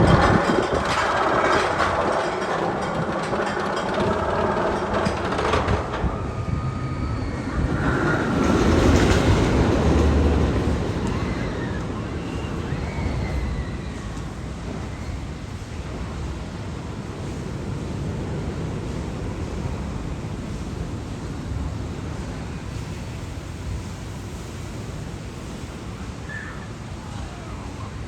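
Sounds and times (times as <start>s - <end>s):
roller coaster train rumbling: 0.0s - 28.0s.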